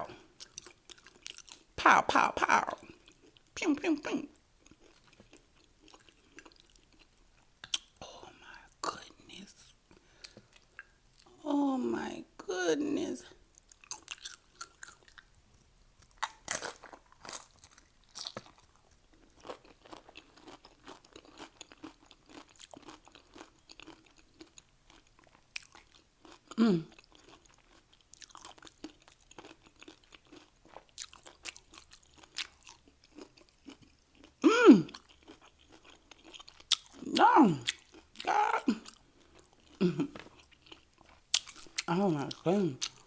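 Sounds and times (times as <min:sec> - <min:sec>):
chewing crunchy chips: 0:00.0 - 0:01.8, 0:02.7 - 0:03.6, 0:04.3 - 0:08.0, 0:13.3 - 0:43.0.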